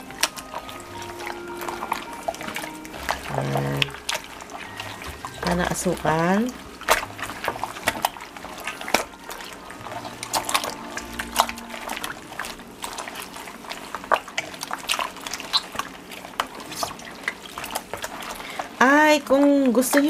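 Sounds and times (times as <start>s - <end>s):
meat squishing in marinade: 0.0s - 20.0s.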